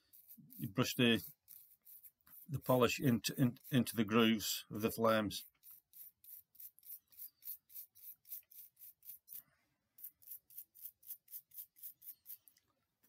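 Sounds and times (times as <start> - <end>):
toothbrush scrubbing metal: 0.0 - 9.4, 10.0 - 12.5.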